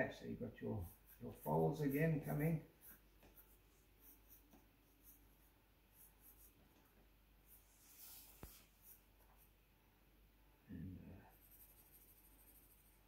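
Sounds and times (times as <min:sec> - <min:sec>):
pencil scratching on paper: 0:00.5 - 0:09.5, 0:11.3 - 0:13.0.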